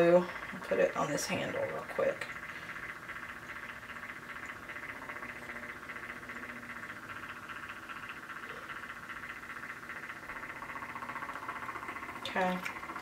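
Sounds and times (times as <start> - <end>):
small electric motor buzzing: 0.0 - 13.0.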